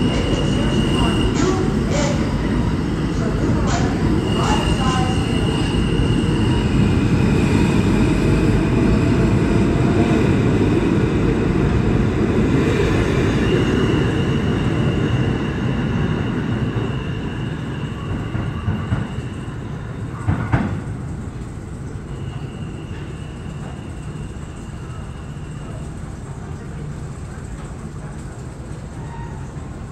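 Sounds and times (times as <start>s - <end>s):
subway train rumble: 0.0s - 29.9s.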